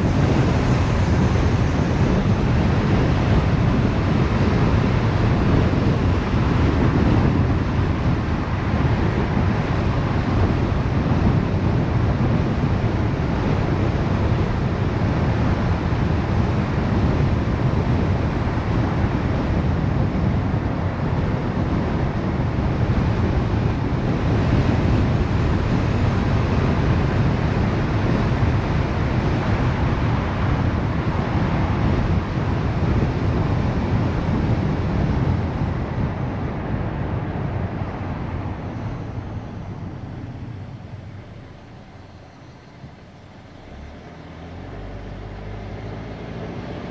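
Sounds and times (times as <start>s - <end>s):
car road and wind noise: 0.0s - 46.9s.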